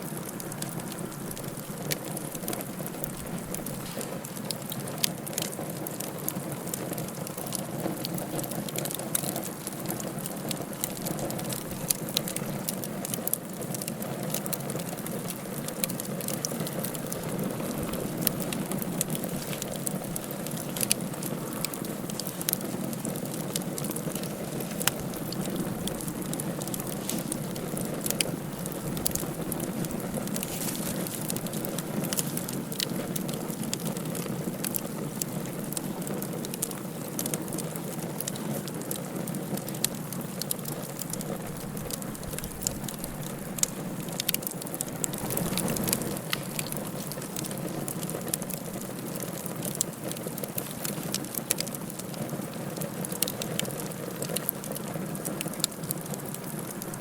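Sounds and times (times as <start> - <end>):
steady rushing fire: 0.0 - 57.0
wood fire crackling with pops: 0.0 - 57.0.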